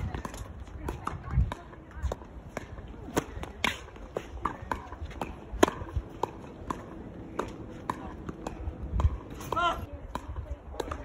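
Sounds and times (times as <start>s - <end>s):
tennis ball bouncing on court: 0.0s - 11.0s
tennis balls struck by rackets: 0.0s - 11.0s.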